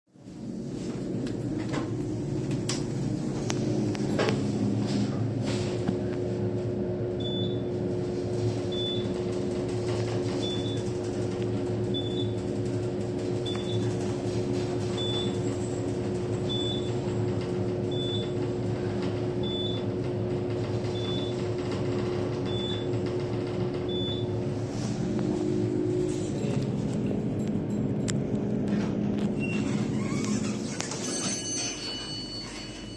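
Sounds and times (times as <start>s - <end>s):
elevator machine hum: 0.1s - 32.9s.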